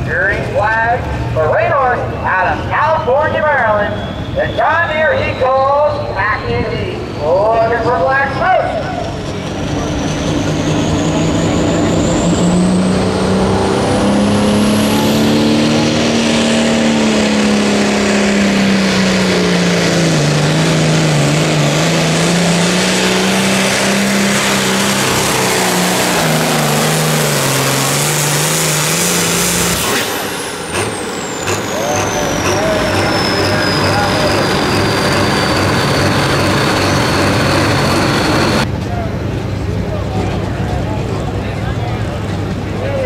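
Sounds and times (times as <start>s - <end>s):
tractor diesel engine at full throttle: 0.0s - 43.0s
high whine: 2.1s - 38.8s.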